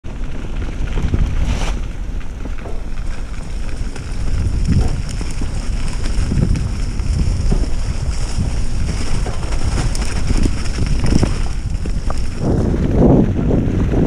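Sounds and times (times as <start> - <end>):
tyres rolling on dirt trail: 0.0 - 14.0
wind buffeting microphone: 0.0 - 14.0
bike thumping over bumps: 0.1 - 13.2.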